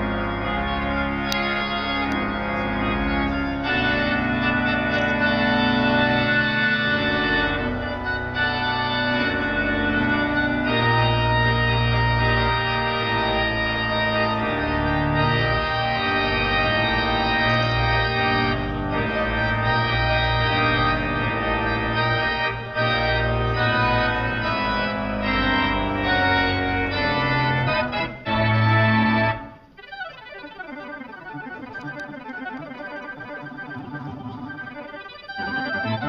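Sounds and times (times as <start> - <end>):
organ playing slow chords: 0.0 - 36.0.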